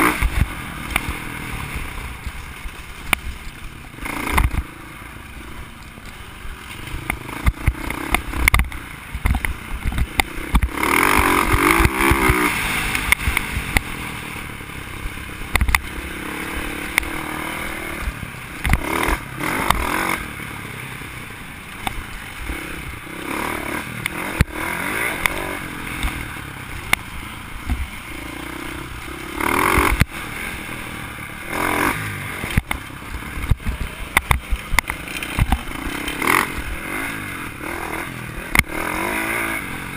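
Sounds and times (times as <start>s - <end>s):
bike rattling over bumps: 0.0s - 39.9s
dirt bike engine revving: 0.0s - 39.9s.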